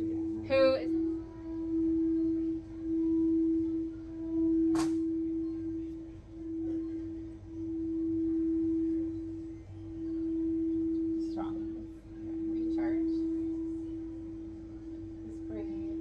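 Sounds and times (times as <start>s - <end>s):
singing bowl tone: 0.0s - 16.0s.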